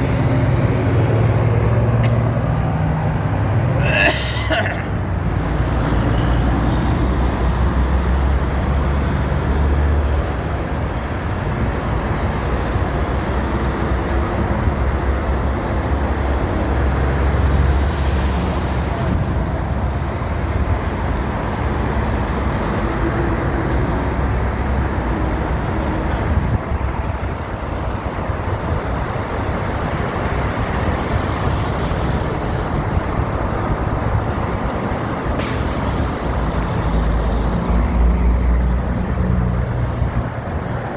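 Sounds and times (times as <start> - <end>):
road noise: 0.0 - 40.9
vehicle engine drone: 0.0 - 40.9.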